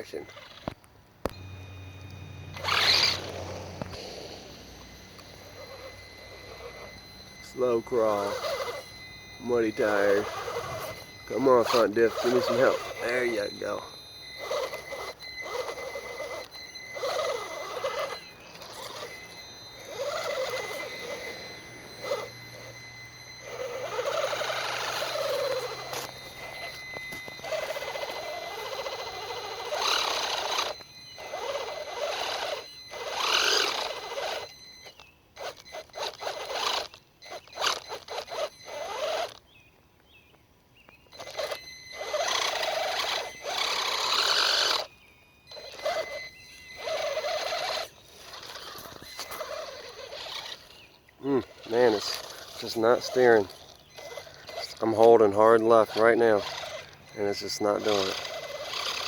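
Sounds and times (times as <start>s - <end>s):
toy truck electric motor whining: 0.0s - 39.6s, 41.0s - 59.0s
thin steady high tone: 0.0s - 59.0s.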